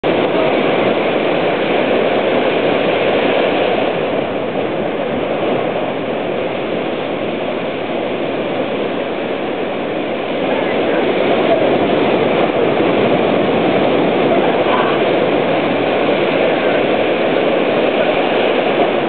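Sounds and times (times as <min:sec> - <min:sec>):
ocean surf rushing: 0:00.0 - 0:19.0
wind: 0:00.0 - 0:19.0.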